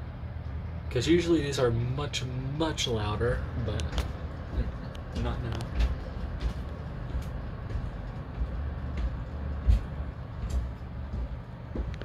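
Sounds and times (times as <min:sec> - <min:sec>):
exhaust fan humming: 0:00.0 - 0:12.0.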